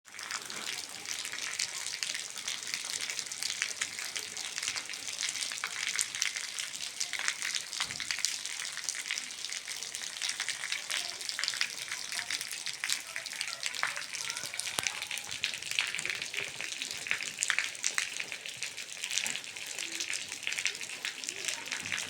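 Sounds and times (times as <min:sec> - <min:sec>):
heavy rain falling: 0:00.1 - 0:22.0.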